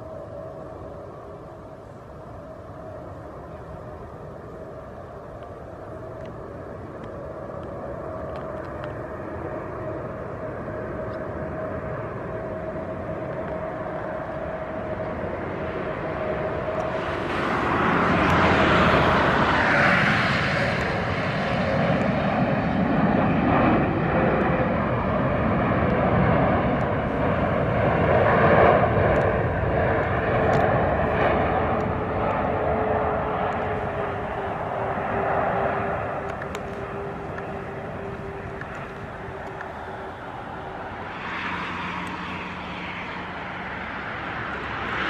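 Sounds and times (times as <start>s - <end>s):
jet engine whine and rumble: 0.0s - 45.0s.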